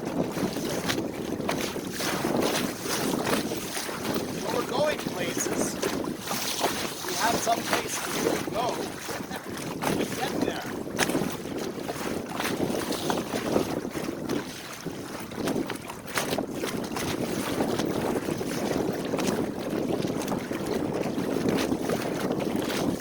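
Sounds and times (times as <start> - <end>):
water splashing along a hull: 0.0 - 23.0
wind buffeting microphone: 0.0 - 23.0.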